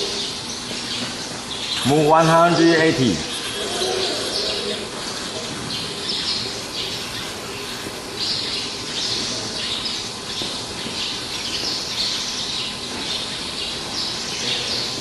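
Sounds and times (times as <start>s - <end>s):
birds chirping and squawking: 0.0s - 15.0s
low background hum: 0.0s - 15.0s.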